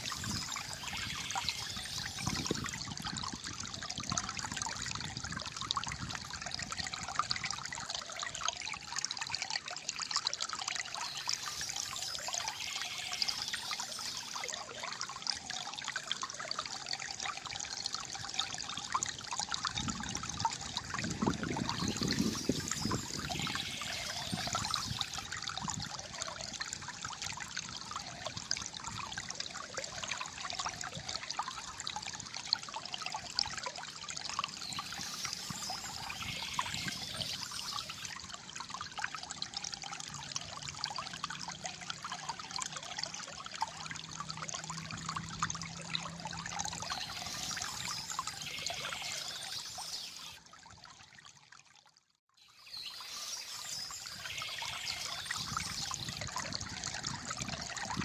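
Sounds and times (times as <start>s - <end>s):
water gurgling over stones: 0.0s - 51.0s, 52.7s - 58.0s.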